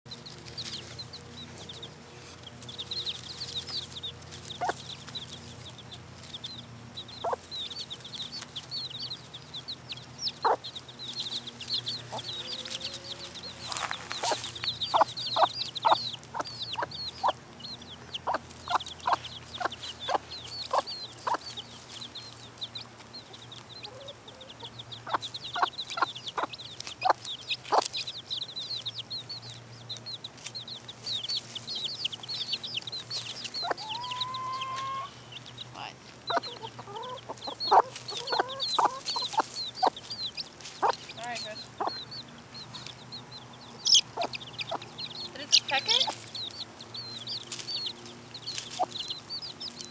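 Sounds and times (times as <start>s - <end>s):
chicks peeping: 0.1s - 49.9s
hen clucking: 0.1s - 49.9s.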